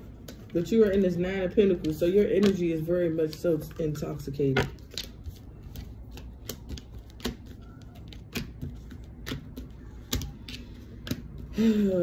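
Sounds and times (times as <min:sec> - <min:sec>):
cards clicking on a table: 0:00.2 - 0:11.5.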